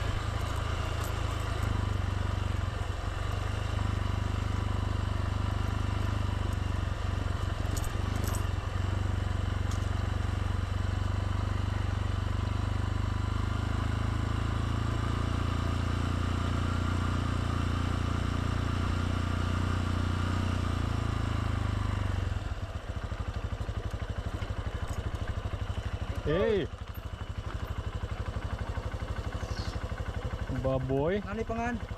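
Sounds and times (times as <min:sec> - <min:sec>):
motorbike engine running: 0:00.0 - 0:31.9.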